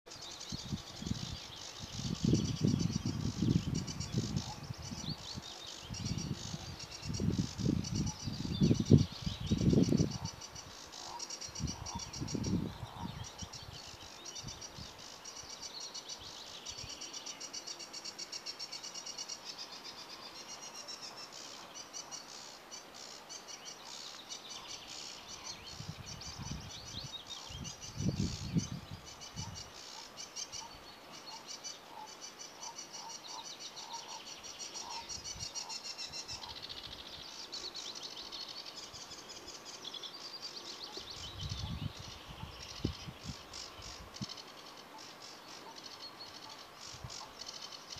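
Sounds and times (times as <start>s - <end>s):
warbler chattering song: 0.1s - 47.9s.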